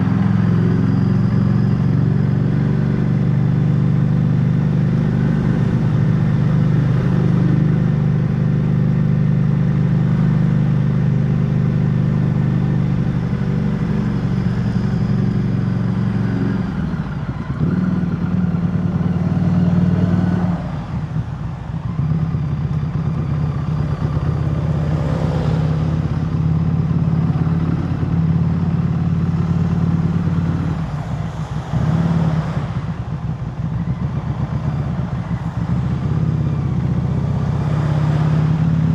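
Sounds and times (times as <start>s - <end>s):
air rush and road noise: 0.0s - 38.9s
motorcycle engine cruising: 0.0s - 38.9s.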